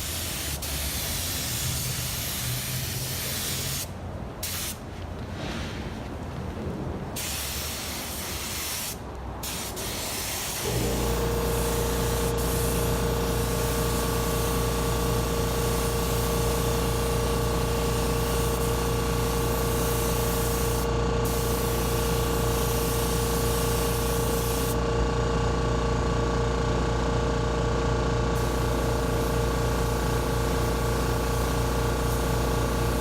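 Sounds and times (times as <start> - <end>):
paint spray gun hissing: 0.0 - 4.8, 7.2 - 24.8, 28.4 - 33.0.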